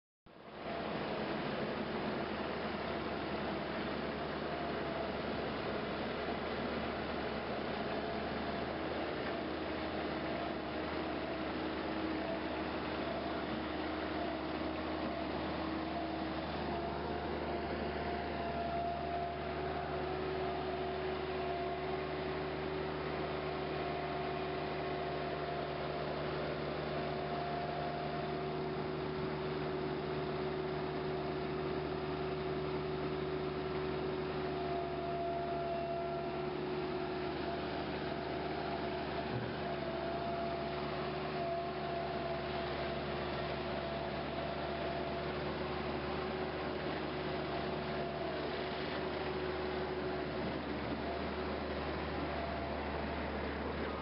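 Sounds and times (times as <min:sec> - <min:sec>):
engine humming steadily: 0:00.3 - 0:54.0.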